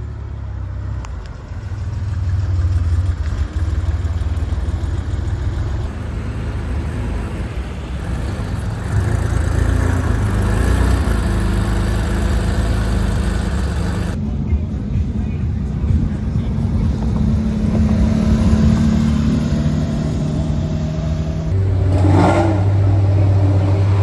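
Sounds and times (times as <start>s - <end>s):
sports car engine exhaust rumble: 0.0s - 24.0s.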